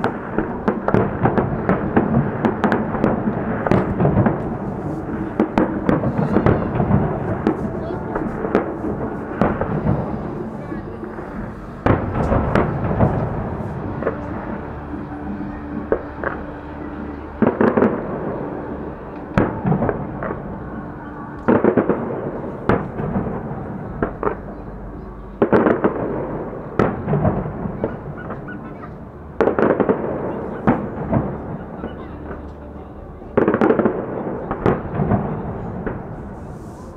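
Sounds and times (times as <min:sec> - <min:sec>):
distant fireworks bangs and crackling: 0:00.0 - 0:36.9.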